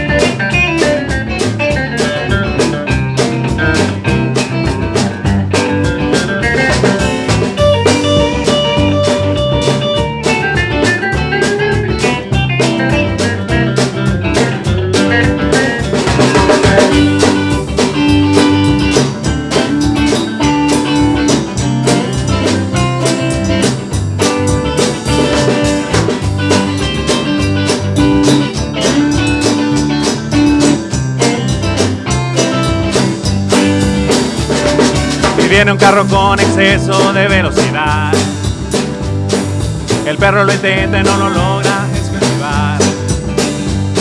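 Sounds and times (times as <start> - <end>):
bass guitar: 0.0 - 44.0
drum kit steady beat: 0.0 - 44.0
electric guitar: 0.0 - 44.0.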